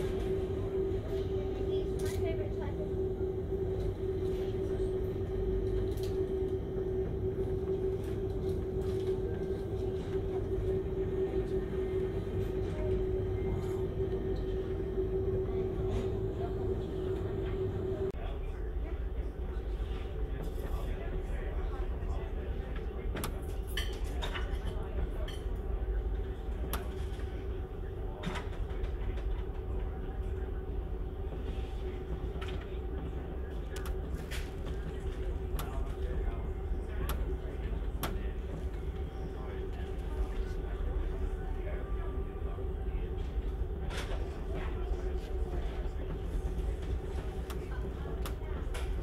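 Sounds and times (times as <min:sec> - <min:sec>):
ferry engine rumble: 0:00.0 - 0:49.0.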